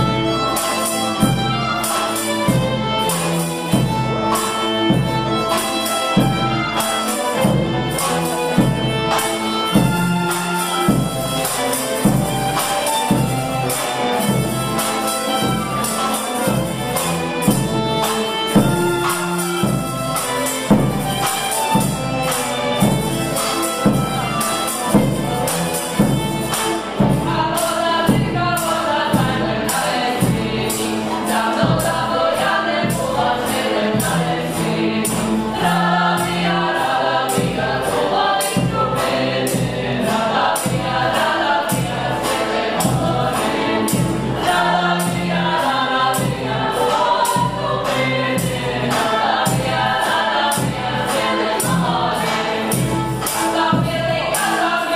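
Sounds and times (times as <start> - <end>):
choir singing: 0.0 - 54.9
folk music: 0.0 - 54.9
tambourine beat: 0.0 - 54.9.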